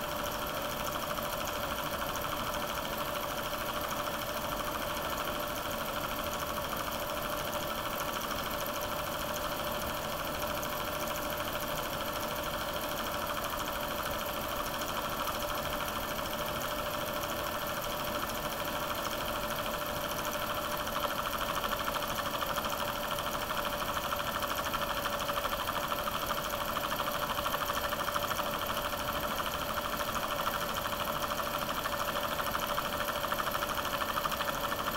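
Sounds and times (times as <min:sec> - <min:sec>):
film projector whirring: 0:00.0 - 0:34.9.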